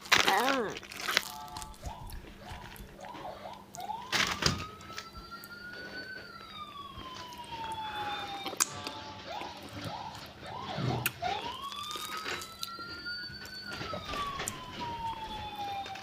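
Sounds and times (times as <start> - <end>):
siren-like wail: 0.3 - 16.0.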